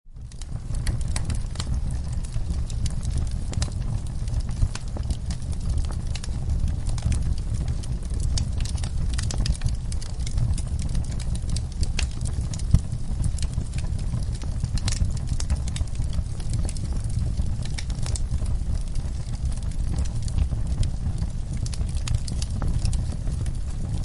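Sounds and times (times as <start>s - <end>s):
wood fire crackling and popping: 0.1s - 24.0s.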